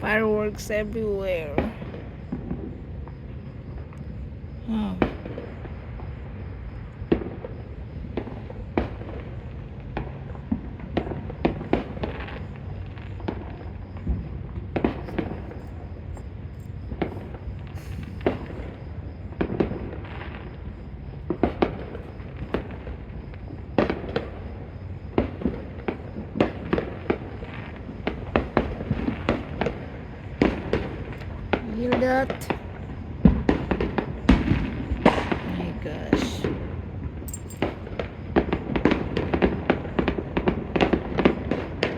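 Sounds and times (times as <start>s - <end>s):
fireworks popping and banging: 0.0s - 41.9s.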